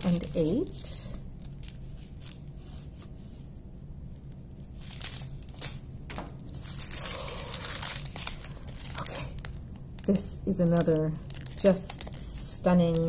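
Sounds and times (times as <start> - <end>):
plastic bags crinkling: 0.0 - 3.0, 4.5 - 13.0.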